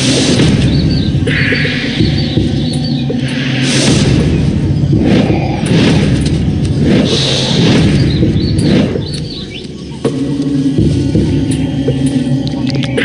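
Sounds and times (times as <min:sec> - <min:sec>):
deep booming whooshes: 0:00.0 - 0:12.4
low music: 0:00.0 - 0:13.0.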